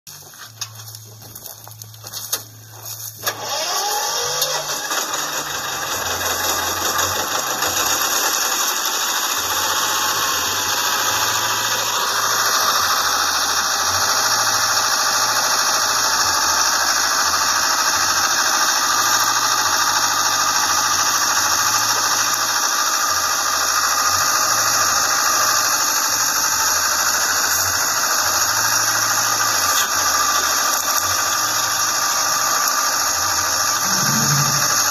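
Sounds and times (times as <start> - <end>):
engine rumbling: 0.1 - 34.9.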